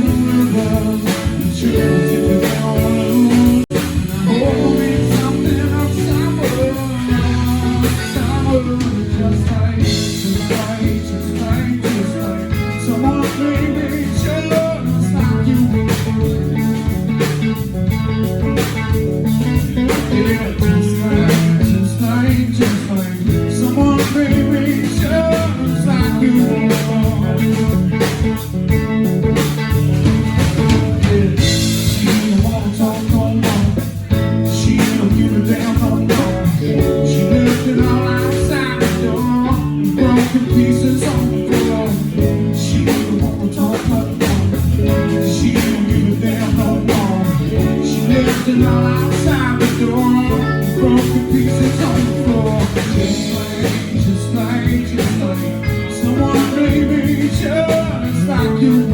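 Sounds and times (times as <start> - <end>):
blues-rock band playing: 0.0 - 58.9
guitar bending notes: 0.0 - 58.9.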